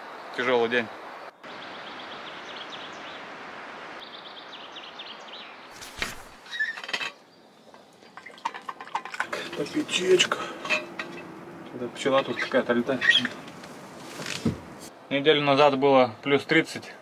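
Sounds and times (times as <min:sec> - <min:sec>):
steady forest hiss: 0:00.0 - 0:08.2, 0:09.3 - 0:17.0
small birds chirping: 0:00.0 - 0:08.5, 0:09.2 - 0:15.2.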